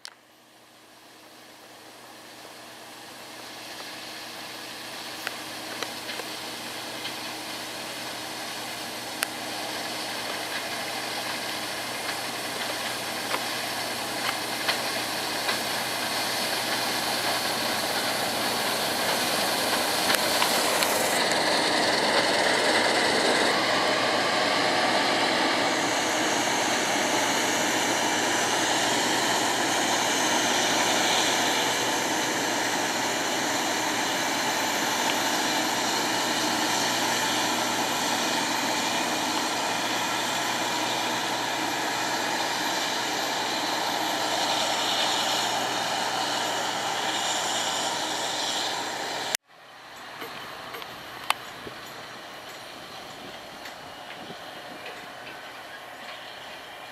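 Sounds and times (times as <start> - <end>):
heavy farm machinery running: 2.7 - 49.4.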